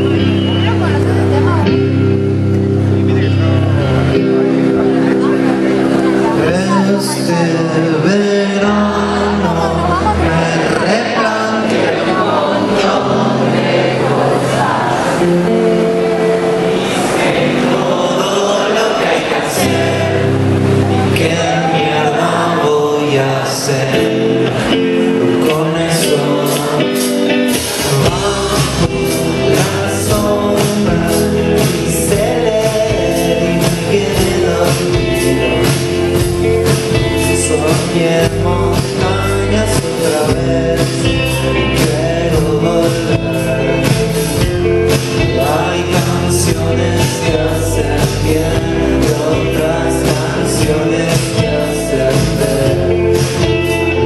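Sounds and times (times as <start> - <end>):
drums and bass: 0.0 - 12.1, 19.5 - 22.8, 23.7 - 54.0
guitar chords: 0.0 - 54.0
live rock band playing: 0.0 - 54.0
sung vocals: 0.0 - 54.0.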